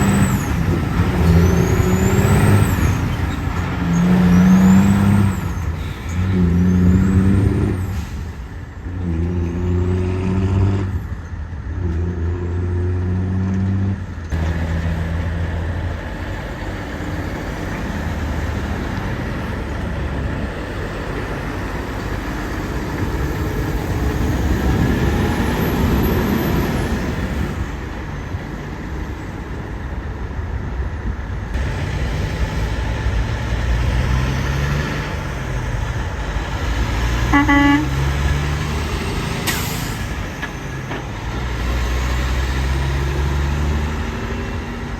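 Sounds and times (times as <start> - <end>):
diesel truck engine: 0.0 - 44.9
trucks passing with tyre noise: 0.0 - 44.9.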